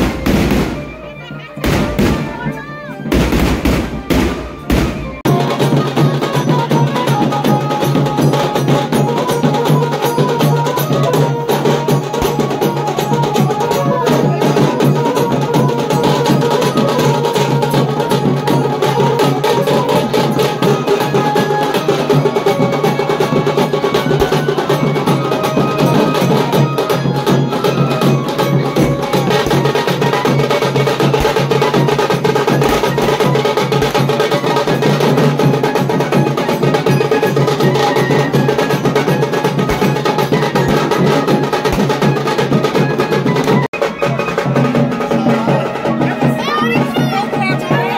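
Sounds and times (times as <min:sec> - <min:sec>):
drum band playing fast rhythm: 0:00.0 - 0:47.9.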